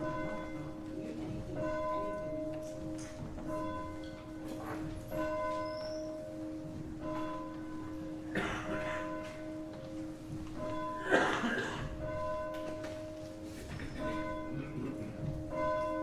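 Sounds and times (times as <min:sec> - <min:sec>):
church bell ringing: 0:00.0 - 0:16.0.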